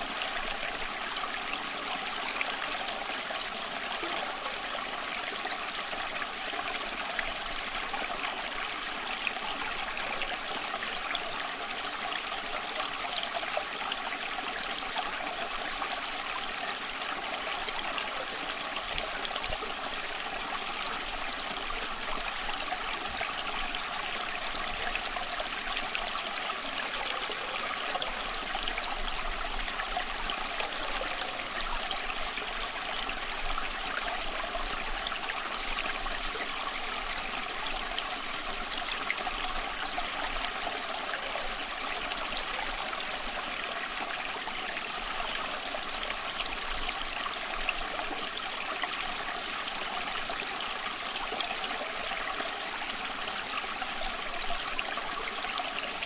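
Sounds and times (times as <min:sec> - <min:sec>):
stream water running over stones: 0:00.0 - 0:56.0.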